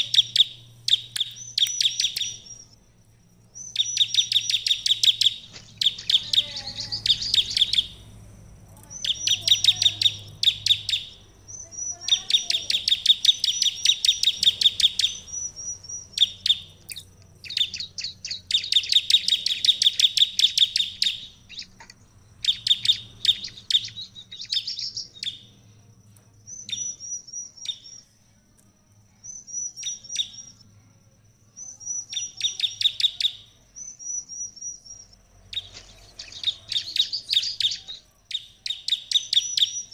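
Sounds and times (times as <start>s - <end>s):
bird singing rapid chattering notes: 0.0s - 25.6s, 26.4s - 28.2s, 29.1s - 30.6s, 31.6s - 39.9s.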